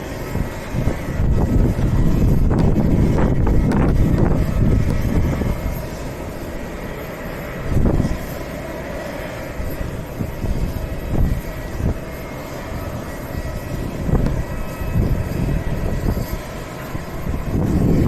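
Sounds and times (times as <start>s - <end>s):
airplane engines whining: 0.0s - 18.0s
wind rumbling on microphone: 0.0s - 18.0s.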